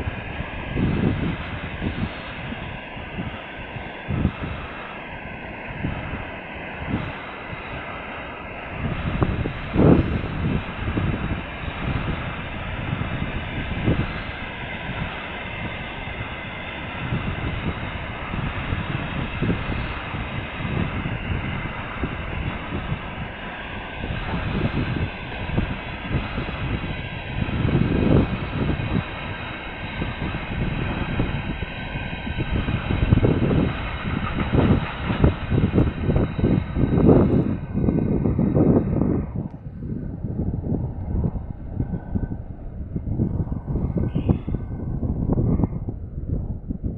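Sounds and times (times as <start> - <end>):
freight train rumbling past: 0.0 - 46.9
wind buffeting microphone: 0.0 - 46.9.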